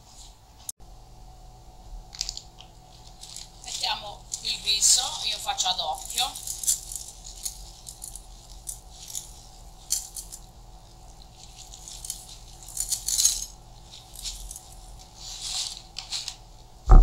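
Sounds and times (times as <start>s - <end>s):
plastic bag crinkling: 2.1s - 16.6s.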